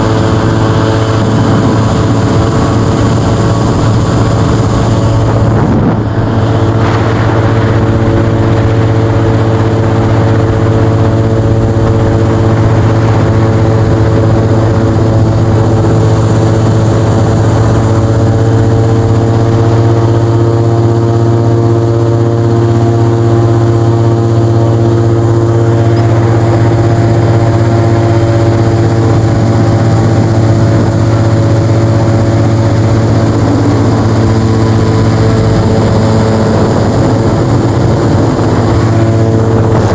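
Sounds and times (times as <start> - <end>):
airboat engine and propeller drone: 0.0 - 39.9.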